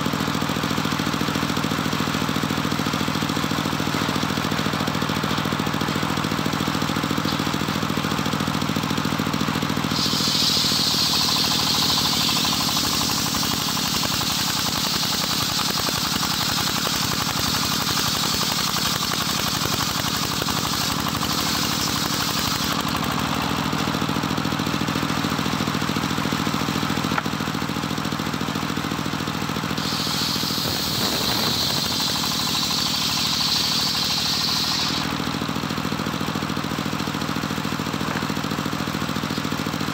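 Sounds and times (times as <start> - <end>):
saw blade cutting wood: 0.0 - 27.5, 29.3 - 37.2
engine running: 0.0 - 39.9.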